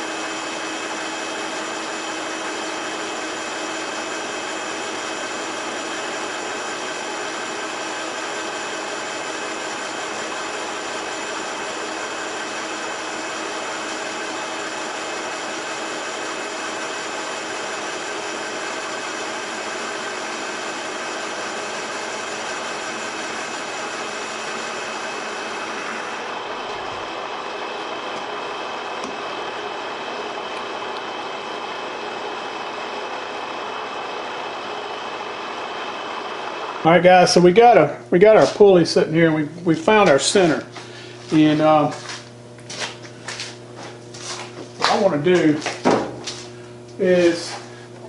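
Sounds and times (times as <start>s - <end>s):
lathe whining: 0.0s - 48.0s.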